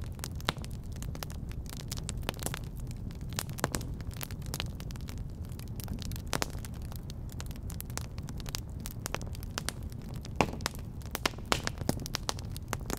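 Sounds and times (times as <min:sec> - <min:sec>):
campfire pops and snaps: 0:00.0 - 0:12.9.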